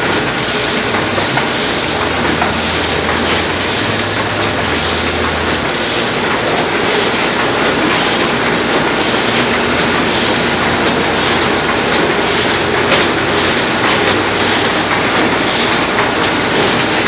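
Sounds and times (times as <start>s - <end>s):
printing press clattering: 0.0s - 17.0s.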